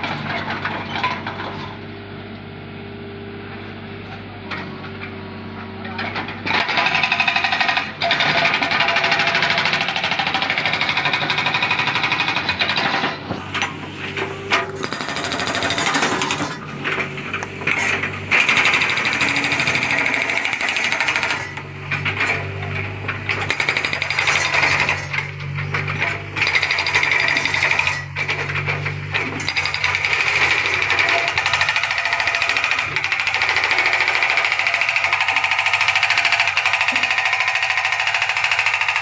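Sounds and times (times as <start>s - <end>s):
excavator engine running: 0.0s - 39.0s
hydraulic breaker hammering concrete: 6.2s - 39.0s.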